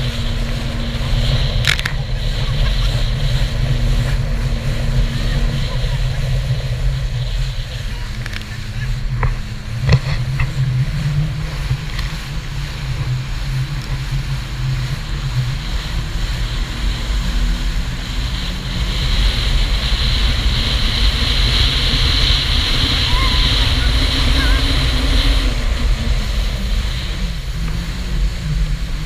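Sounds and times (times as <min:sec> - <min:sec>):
rush of spray and wind: 0:00.0 - 0:29.0
watercraft engine drone: 0:00.0 - 0:29.0.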